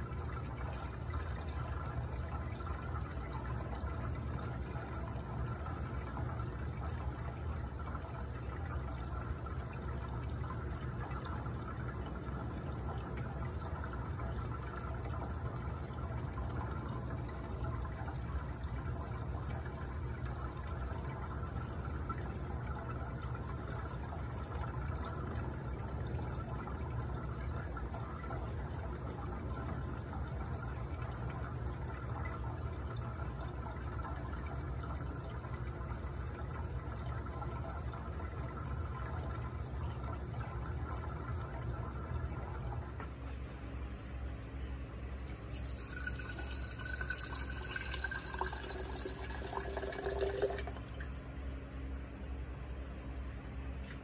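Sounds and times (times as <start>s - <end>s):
water rushing through pipes: 0.0s - 43.8s, 44.6s - 51.6s
low pump hum: 0.0s - 54.0s.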